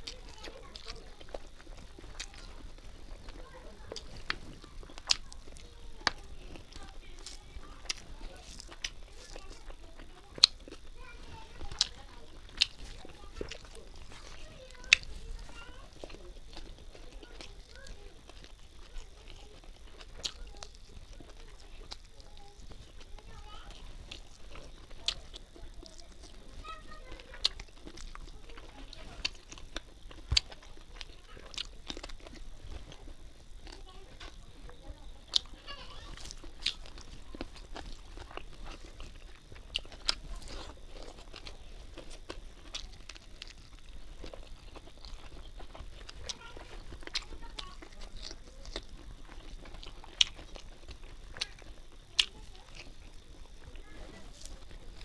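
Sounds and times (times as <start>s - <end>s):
wet chewing and mixing: 0.0s - 55.0s.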